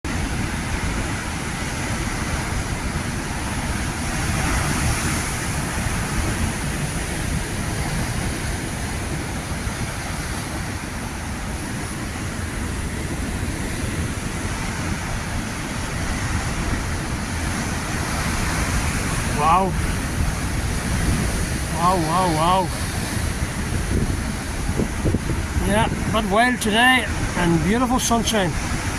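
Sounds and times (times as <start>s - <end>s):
ocean waves crashing: 0.1s - 28.9s
wind rumbling on microphone: 0.1s - 28.9s.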